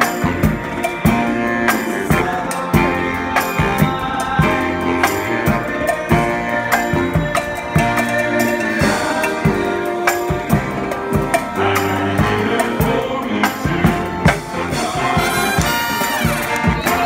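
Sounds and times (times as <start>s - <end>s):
brass marching band: 0.0s - 17.0s
drums beating: 0.0s - 17.0s.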